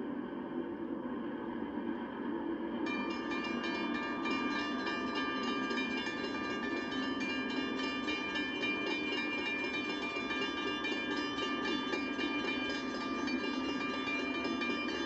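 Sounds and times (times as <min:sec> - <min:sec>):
railroad crossing bell ringing: 0:02.9 - 0:15.0.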